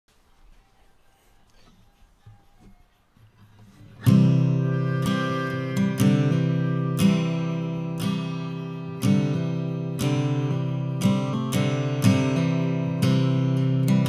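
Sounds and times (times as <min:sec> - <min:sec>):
acoustic guitar strumming: 0:01.8 - 0:14.0.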